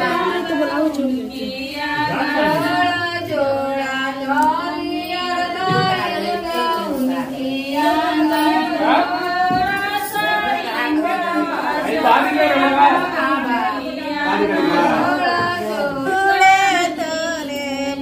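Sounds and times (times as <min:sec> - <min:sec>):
people talking: 0:00.0 - 0:18.0
women singing together: 0:00.0 - 0:18.0.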